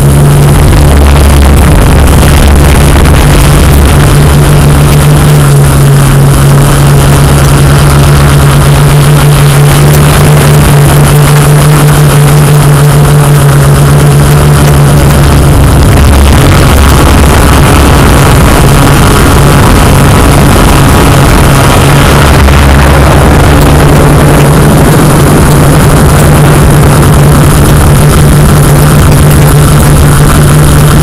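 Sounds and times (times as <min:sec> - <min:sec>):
drone motors humming: 0:00.0 - 0:31.0.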